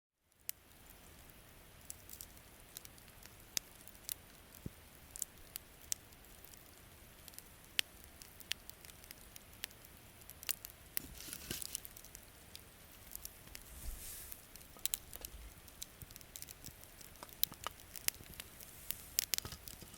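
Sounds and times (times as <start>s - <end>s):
campfire crackling and popping: 0.2s - 19.9s
faint steady hiss: 0.2s - 19.9s.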